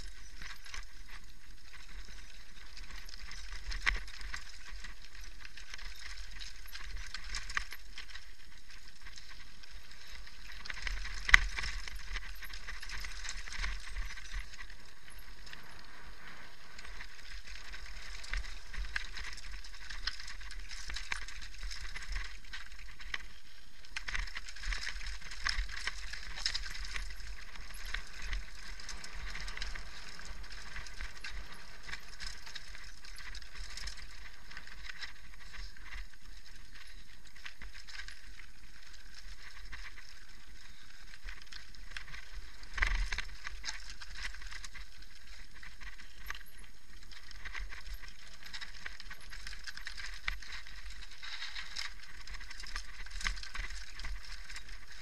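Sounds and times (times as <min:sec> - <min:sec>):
bike rattling and clinking: 0:00.0 - 0:55.0
tyres crunching over stones: 0:00.0 - 0:55.0.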